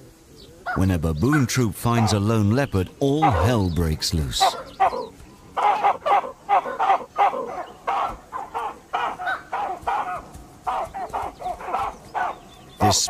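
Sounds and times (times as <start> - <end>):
baboons barking and screaming: 0.6 - 13.0.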